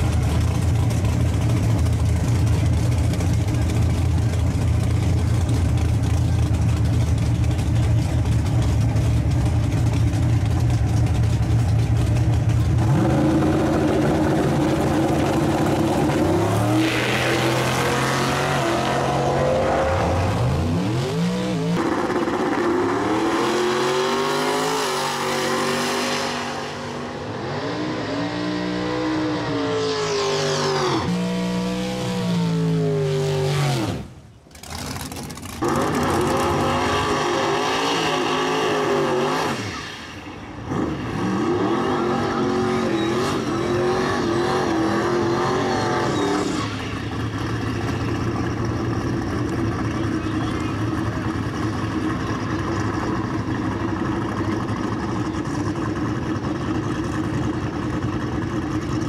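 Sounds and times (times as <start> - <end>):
drag race car engine at full throttle: 0.0 - 59.0
race engines revving: 0.0 - 59.0.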